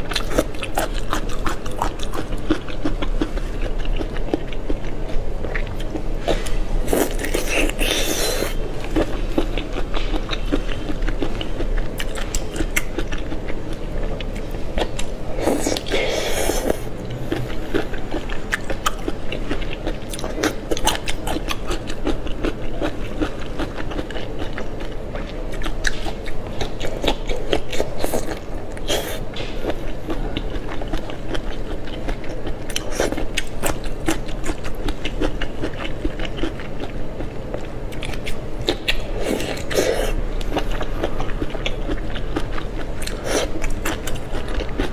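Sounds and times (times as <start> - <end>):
person biting and chewing: 0.1 - 36.9, 37.9 - 44.9.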